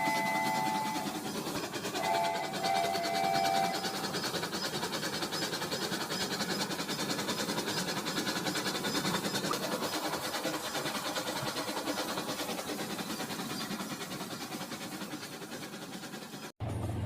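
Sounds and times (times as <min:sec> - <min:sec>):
toy train motor rattling: 0:00.0 - 0:16.5.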